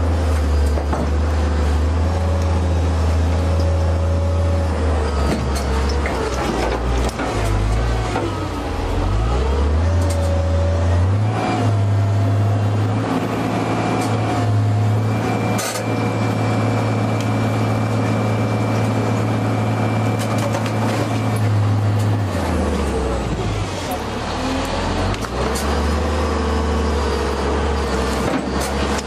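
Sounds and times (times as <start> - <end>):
excavator engine and hydraulics: 0.0 - 29.0.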